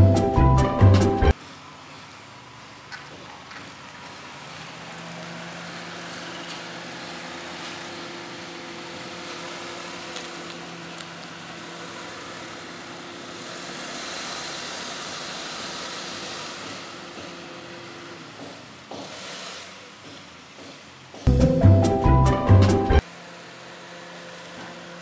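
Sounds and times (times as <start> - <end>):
car engine humming: 0.0 - 25.0.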